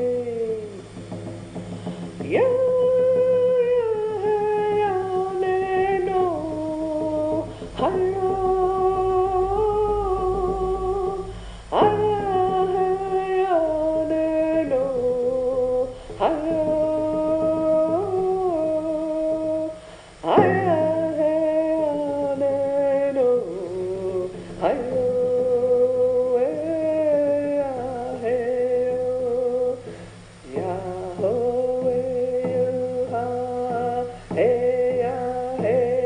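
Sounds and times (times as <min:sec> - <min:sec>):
person humming slow melody: 0:00.0 - 0:36.0.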